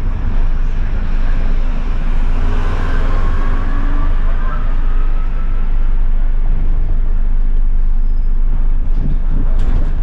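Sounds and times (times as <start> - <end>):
bus diesel engine rumbling: 0.0 - 10.0.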